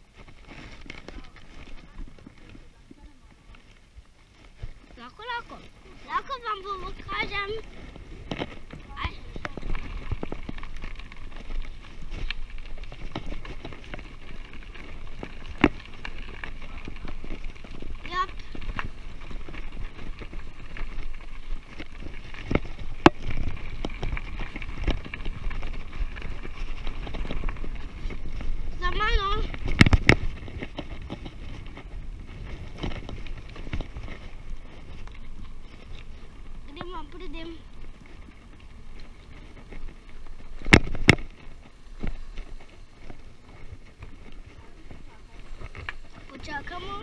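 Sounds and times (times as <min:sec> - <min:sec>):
bike rattling and clicking: 0:00.0 - 0:47.0
bike tyres crunching on gravel: 0:00.0 - 0:47.0.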